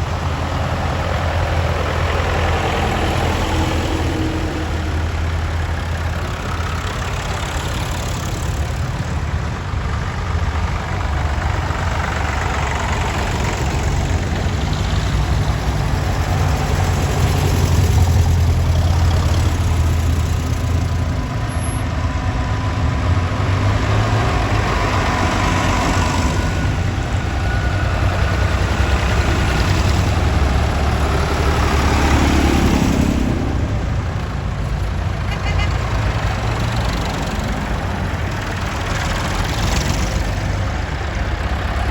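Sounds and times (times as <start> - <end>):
tractor engines droning: 0.0 - 41.9.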